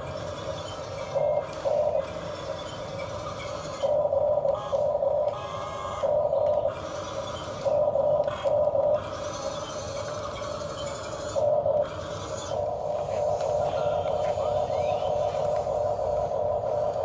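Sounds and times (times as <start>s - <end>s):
motors and gears whirring: 0.0s - 17.0s
steady hum: 0.0s - 17.0s.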